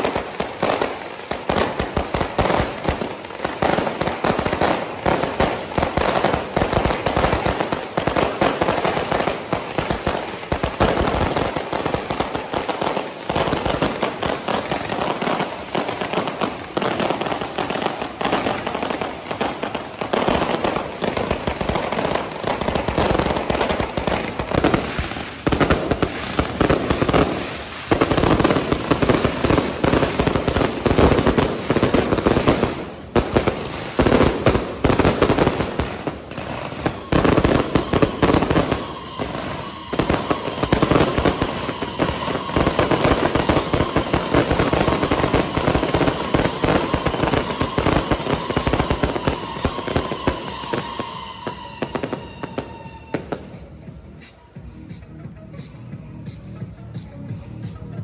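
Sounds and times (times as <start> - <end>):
firecrackers banging and crackling: 0.0 - 55.8.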